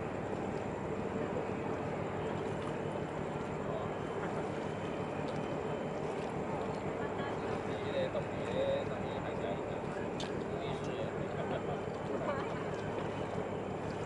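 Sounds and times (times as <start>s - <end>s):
distant ship engine hum: 0.0s - 14.0s.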